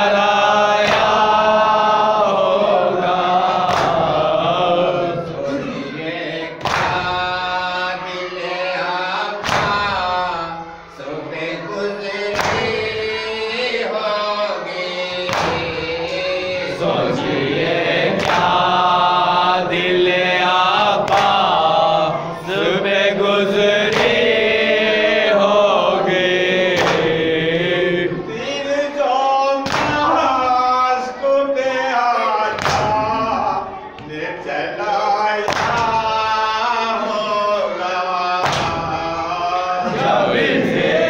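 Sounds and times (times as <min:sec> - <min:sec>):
men chanting together: 0:00.0 - 0:41.0.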